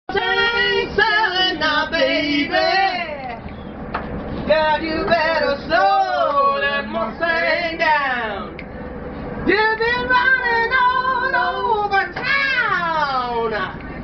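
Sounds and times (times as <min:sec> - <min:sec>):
woman singing unaccompanied: 0:00.1 - 0:03.4, 0:04.5 - 0:08.5, 0:09.4 - 0:13.8
train rumble: 0:00.1 - 0:14.0.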